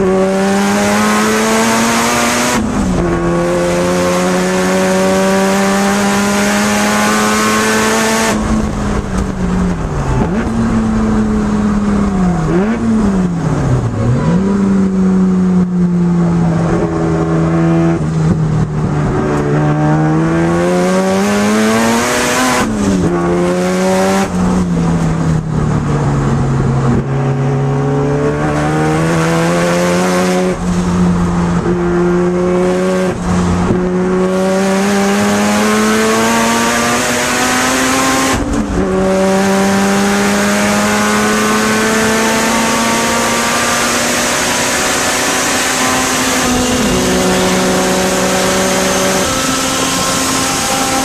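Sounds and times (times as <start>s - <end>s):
rotary engine accelerating hard: 0.0s - 51.0s.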